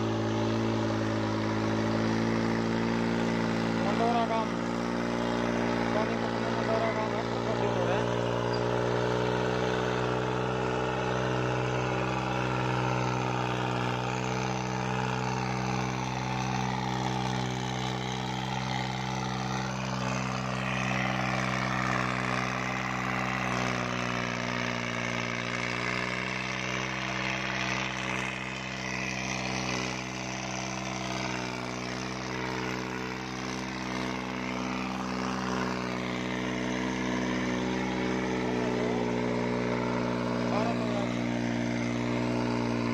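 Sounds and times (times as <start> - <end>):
tractor diesel engine under load: 0.0 - 42.9.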